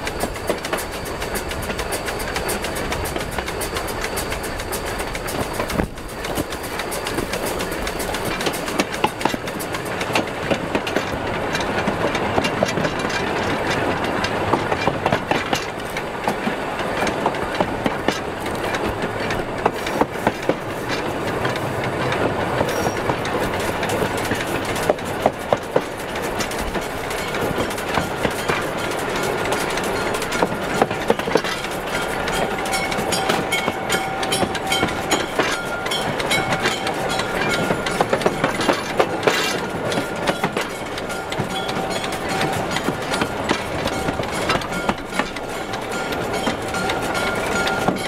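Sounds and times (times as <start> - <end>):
steady rolling noise: 0.0 - 48.0
steam locomotive clanking: 0.0 - 48.0.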